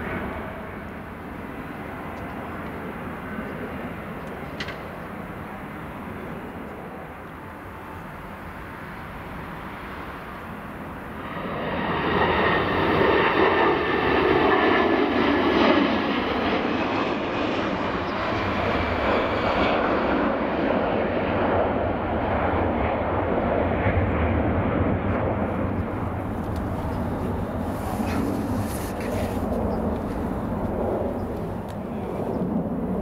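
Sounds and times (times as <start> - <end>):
jet engine roar: 0.0 - 33.0
jet engine whine dropping in pitch: 0.0 - 33.0.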